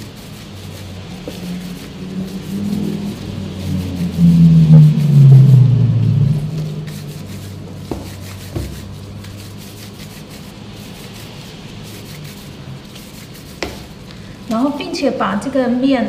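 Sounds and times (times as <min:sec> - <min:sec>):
low droning rumble: 0:00.0 - 0:14.9.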